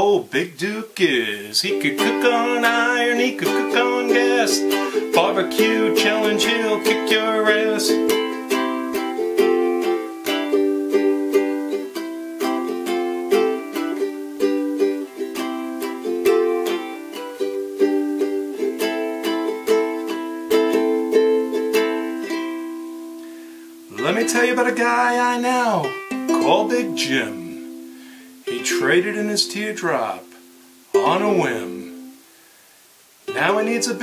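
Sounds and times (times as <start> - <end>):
ukulele strumming chords: 0.0 - 32.3, 33.2 - 34.0.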